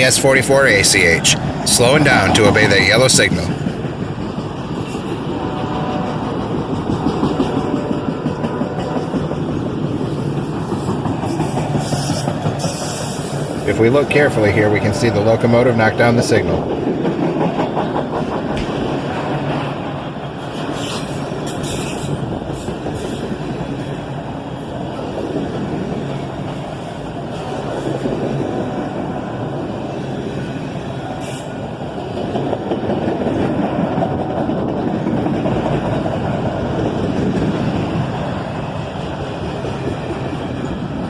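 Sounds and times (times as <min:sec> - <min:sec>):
freight train wheels rumbling: 0:00.0 - 0:41.0
high-pitched train noises: 0:00.0 - 0:41.0.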